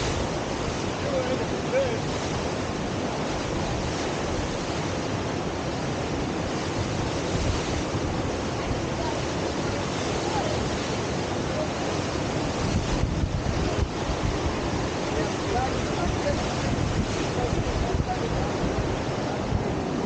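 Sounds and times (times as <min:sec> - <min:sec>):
river water rushing: 0:00.0 - 0:20.0
wind on microphone: 0:00.0 - 0:20.0.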